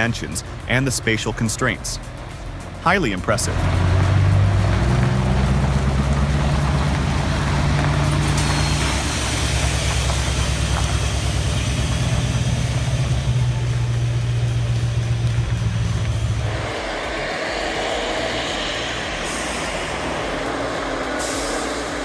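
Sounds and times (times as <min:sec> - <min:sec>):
large vehicle engine running: 0:00.0 - 0:22.0.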